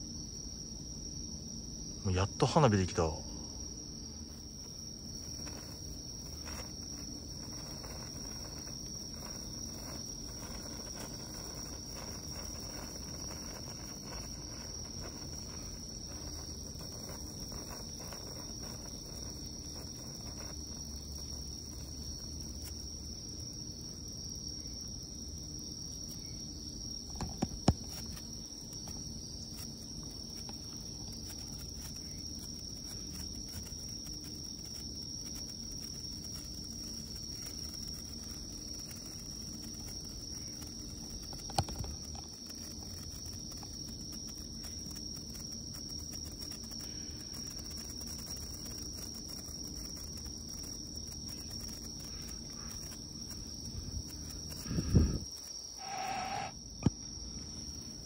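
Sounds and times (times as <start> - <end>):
crickets chirring: 0.0 - 58.0
sparkler crackling: 4.2 - 23.2, 27.2 - 56.9.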